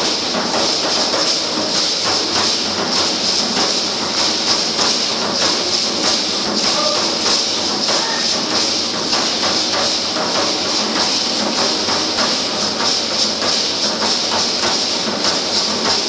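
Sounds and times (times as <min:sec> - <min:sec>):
hand rattles shaking: 0:00.0 - 0:16.0.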